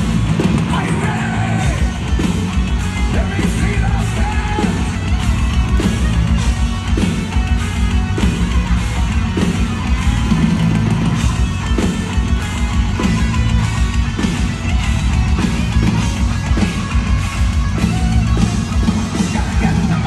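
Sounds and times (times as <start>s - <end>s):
heavy metal band playing loud: 0.0s - 20.0s.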